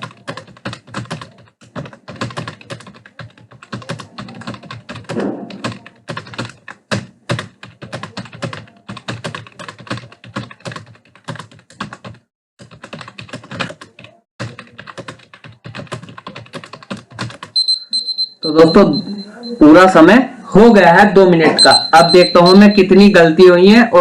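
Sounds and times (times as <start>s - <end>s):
fast typing on keyboard: 0.0s - 18.8s, 21.6s - 23.1s.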